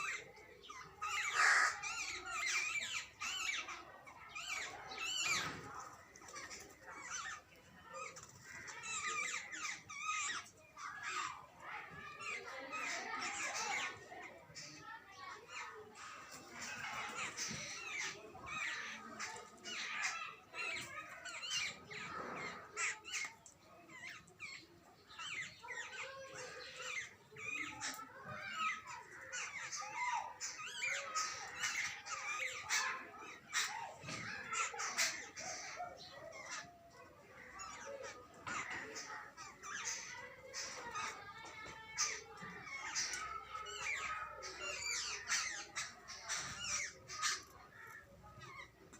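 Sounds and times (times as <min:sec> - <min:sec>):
birds chattering harshly: 0:00.0 - 0:48.9.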